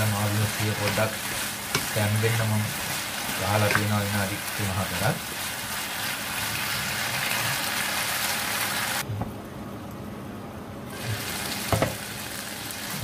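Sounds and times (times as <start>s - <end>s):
meat sizzling in a pan: 0.0s - 9.0s, 10.9s - 13.0s.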